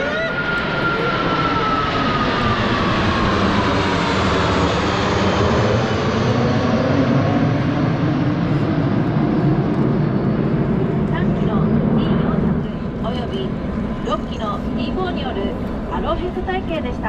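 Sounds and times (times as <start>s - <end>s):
jet aircraft flying past: 0.0s - 17.0s.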